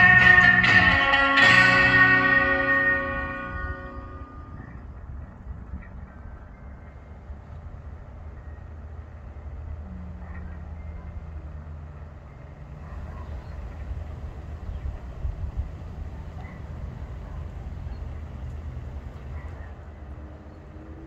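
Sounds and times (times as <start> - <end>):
faint hum: 0.0 - 21.0
low outdoor rumble: 0.0 - 21.0.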